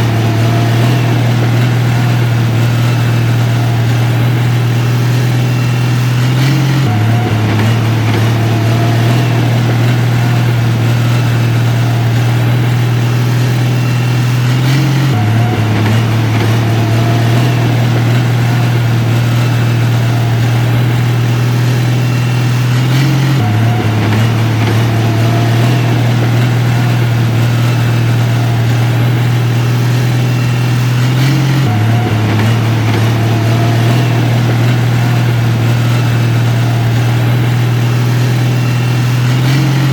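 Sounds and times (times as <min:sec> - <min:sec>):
heavy machine engine droning: 0:00.0 - 0:39.9.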